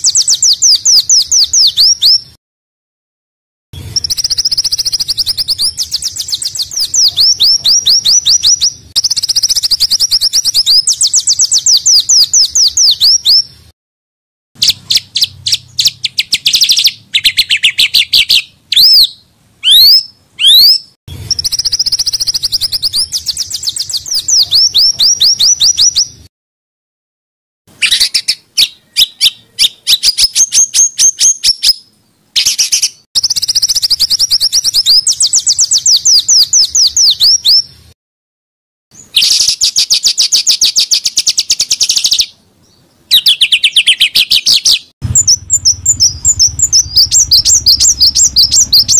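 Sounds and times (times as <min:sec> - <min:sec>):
small songbirds singing: 0:00.0 - 0:02.4, 0:03.8 - 0:13.7, 0:14.6 - 0:26.3, 0:27.7 - 0:37.9, 0:39.0 - 0:48.9.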